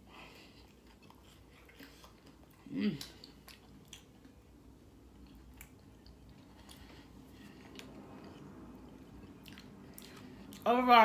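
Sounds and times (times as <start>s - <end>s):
faint chewing: 0.0s - 10.7s.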